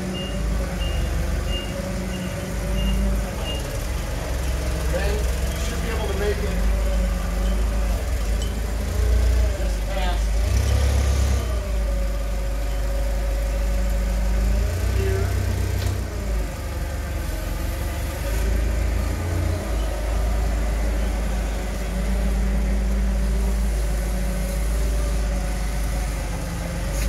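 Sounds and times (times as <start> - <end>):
forklift engine running: 0.0 - 27.0.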